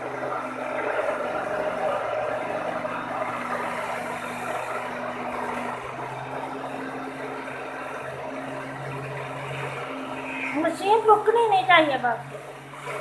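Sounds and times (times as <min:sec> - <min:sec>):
electric blender motor running: 0:00.0 - 0:13.0.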